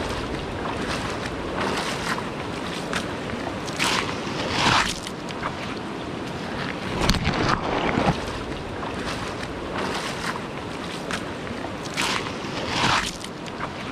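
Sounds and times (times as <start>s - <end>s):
river rushing over gravel: 0.0s - 13.9s.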